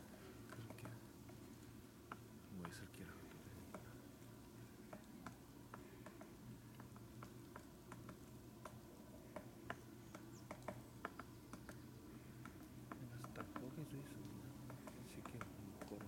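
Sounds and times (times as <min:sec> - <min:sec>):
woodpecker tapping on bark: 0:00.0 - 0:16.0.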